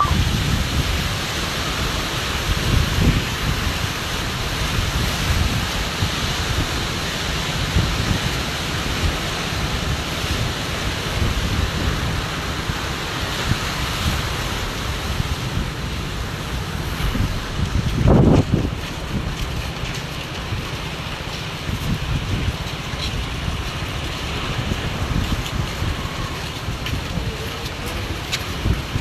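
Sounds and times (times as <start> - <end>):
wind blowing across microphone: 0.0 - 29.0.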